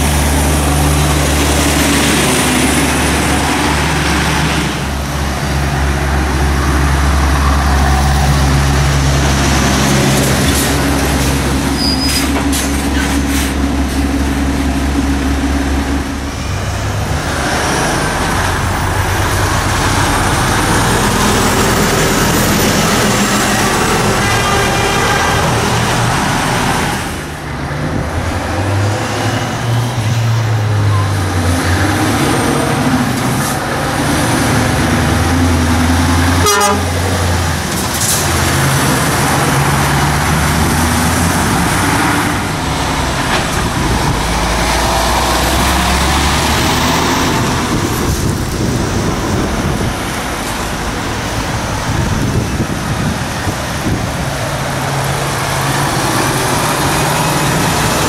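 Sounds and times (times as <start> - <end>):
lorry diesel engines passing: 0.0 - 58.0
tyre and traffic noise: 0.0 - 58.0.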